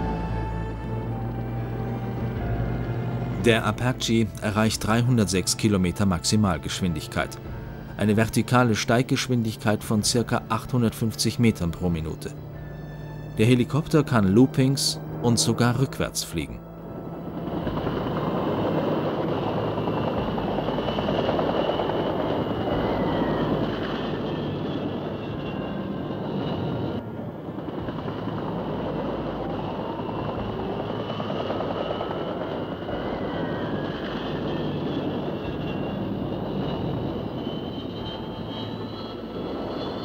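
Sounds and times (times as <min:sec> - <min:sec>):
helicopter flying past: 0:00.0 - 0:40.0.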